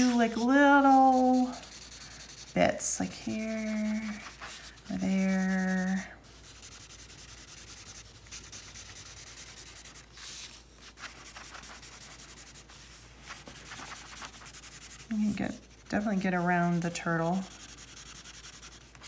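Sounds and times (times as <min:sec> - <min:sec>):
crayon scratching on paper: 0:00.0 - 0:19.0.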